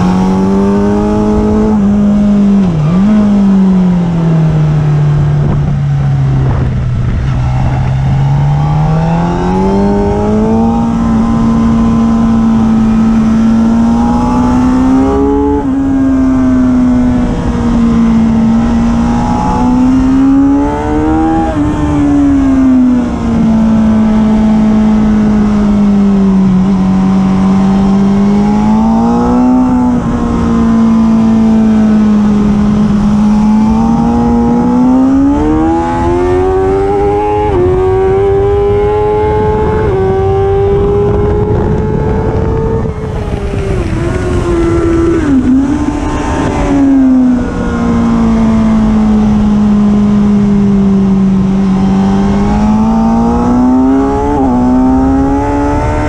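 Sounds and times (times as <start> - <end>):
motorcycle engine at high revs: 0.0 - 56.0
wind noise: 0.0 - 56.0.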